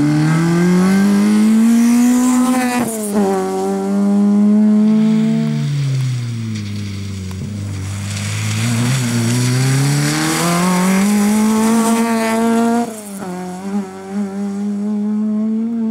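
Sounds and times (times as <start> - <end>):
rally car engine accelerating: 0.0 - 15.9.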